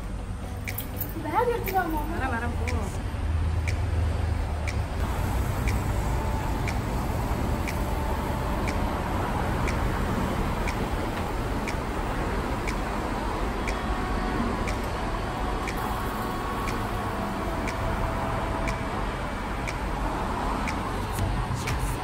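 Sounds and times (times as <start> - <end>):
road traffic passing: 0.0 - 22.0
sharp repeating tick: 1.6 - 22.0.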